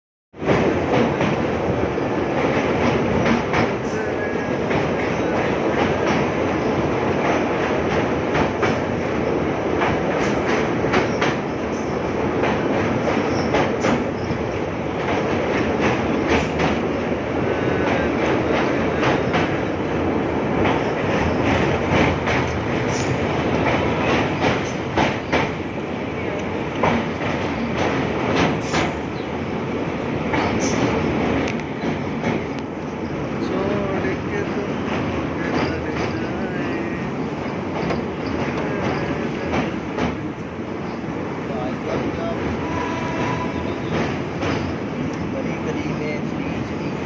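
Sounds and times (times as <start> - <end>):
train rumbling: 0.4 - 47.0
wheels clacking over rail joints: 2.3 - 41.2, 42.0 - 47.0.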